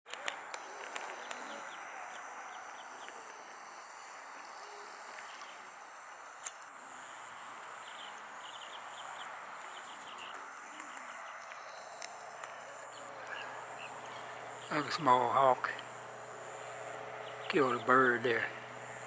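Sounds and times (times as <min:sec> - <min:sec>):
insects trilling: 0:00.4 - 0:19.0.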